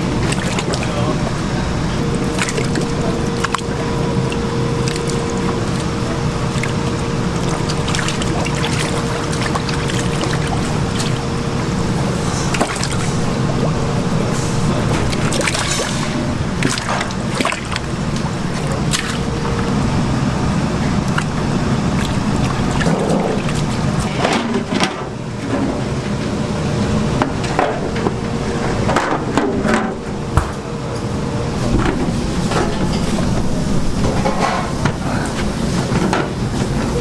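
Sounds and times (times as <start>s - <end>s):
low kitchen rumble: 0.0s - 37.0s.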